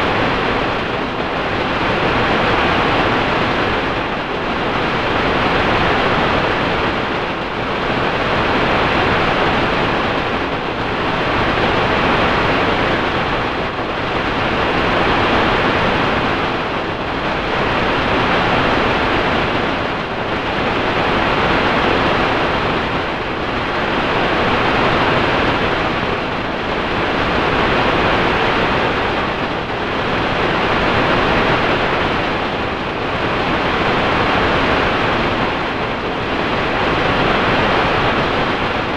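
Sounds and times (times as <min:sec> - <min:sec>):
processed noise rush: 0:00.0 - 0:38.9.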